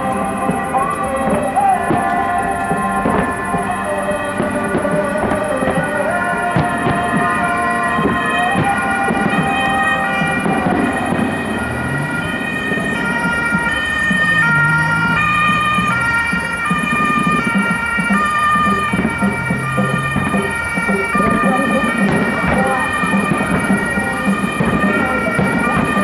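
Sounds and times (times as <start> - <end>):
two-tone emergency sirens: 0.0 - 26.0.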